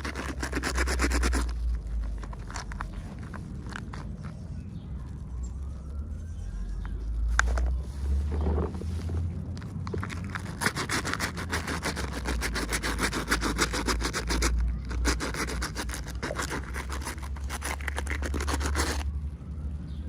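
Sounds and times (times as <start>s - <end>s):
rubbing and scratching strokes: 0.0s - 4.4s, 7.4s - 19.1s.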